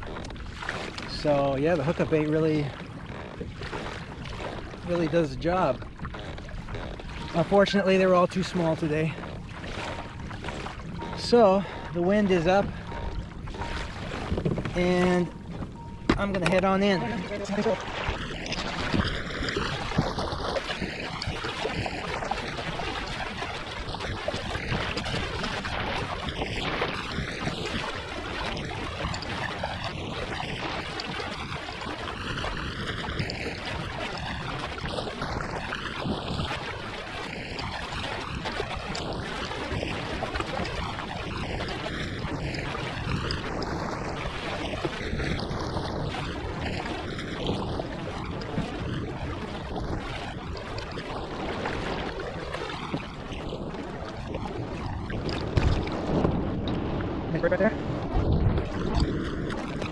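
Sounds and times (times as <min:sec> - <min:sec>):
water sloshing against hull: 0:00.0 - 0:59.9
wind on microphone: 0:00.0 - 0:59.9.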